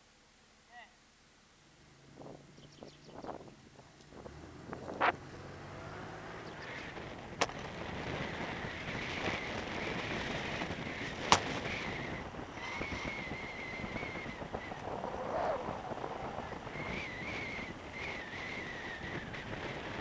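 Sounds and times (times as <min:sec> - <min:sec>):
car engine and road noise: 0:01.2 - 0:20.0.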